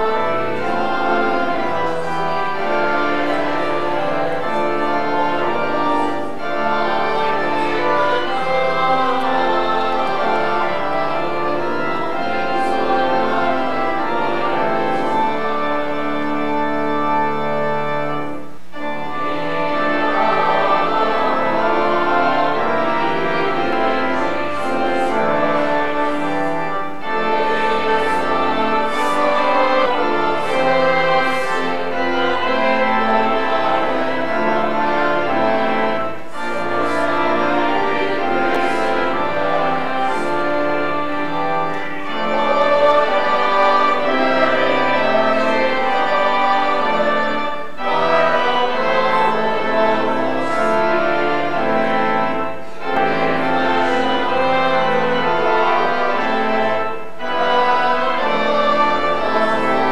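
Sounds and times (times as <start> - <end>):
church organ playing: 0.0 - 59.9
congregation singing: 0.0 - 59.9.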